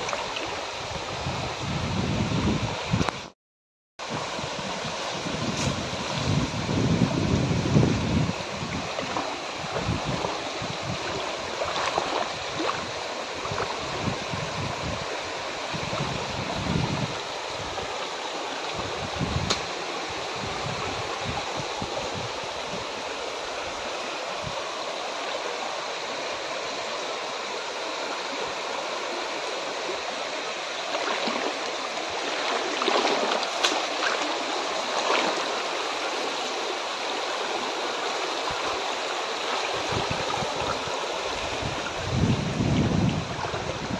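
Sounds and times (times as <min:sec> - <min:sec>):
floodwater rushing: 0:00.0 - 0:01.8, 0:04.0 - 0:43.9.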